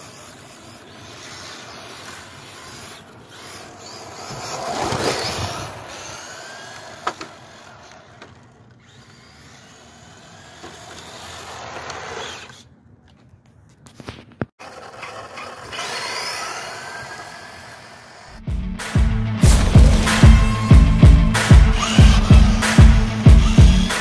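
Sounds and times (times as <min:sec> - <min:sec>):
rc car motor whining: 0:00.0 - 0:12.7, 0:14.6 - 0:18.4, 0:19.5 - 0:24.0.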